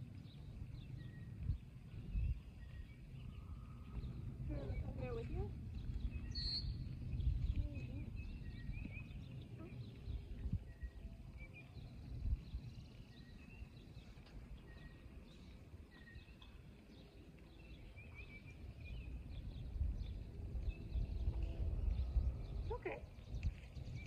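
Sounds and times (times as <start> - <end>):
low rumbling background noise: 0.0 - 24.0
small birds chirping: 0.0 - 24.0.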